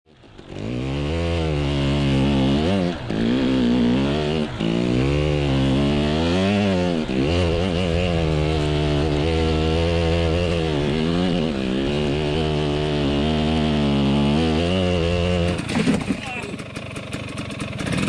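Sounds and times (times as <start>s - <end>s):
dirt bike engine revving: 0.1s - 18.0s.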